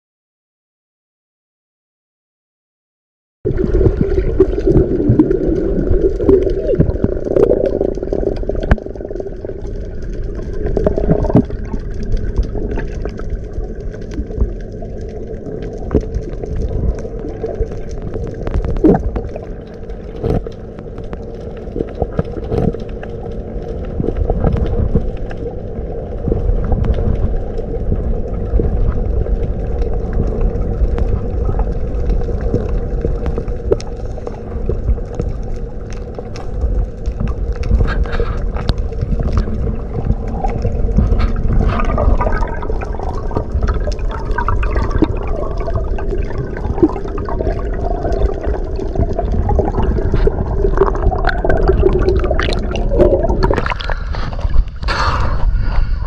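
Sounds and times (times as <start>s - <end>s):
bubbling and gurgling water: 3.5s - 56.0s
low underwater rumble: 3.5s - 56.0s.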